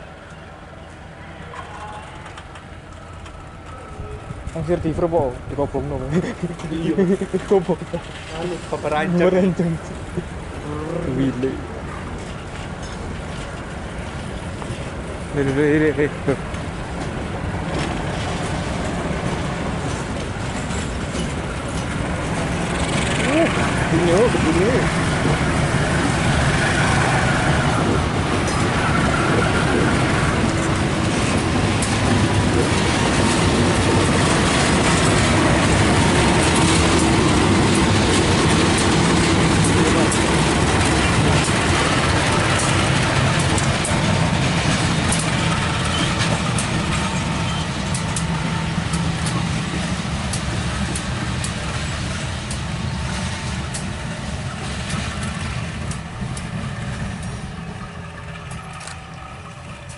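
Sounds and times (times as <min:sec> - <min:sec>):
diesel train engine rumble: 0:00.0 - 0:59.9
wheels rattling on rails: 0:00.0 - 0:59.9.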